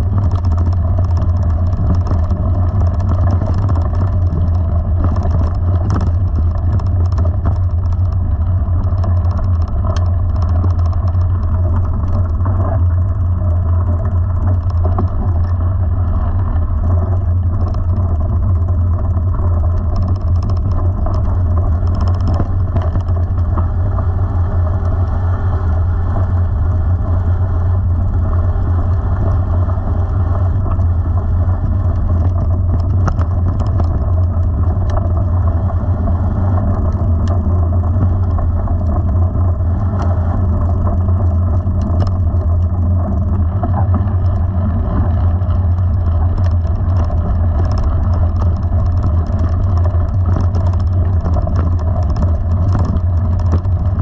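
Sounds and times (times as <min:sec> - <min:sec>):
bike rolling over gravel: 0:00.0 - 0:54.0
gravel clicks and rattles: 0:00.0 - 0:54.0
wind on microphone: 0:00.0 - 0:54.0.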